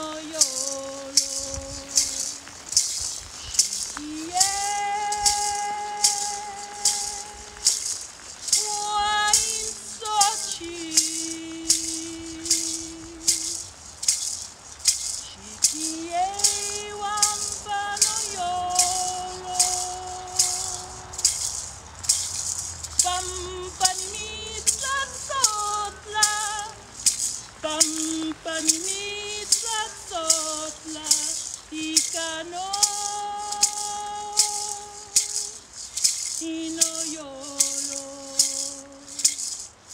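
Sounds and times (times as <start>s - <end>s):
woman singing long notes: 0.0s - 2.6s, 3.5s - 13.6s, 15.2s - 21.3s, 23.0s - 35.7s, 36.3s - 39.5s
gourd rattle shaking: 0.0s - 39.9s.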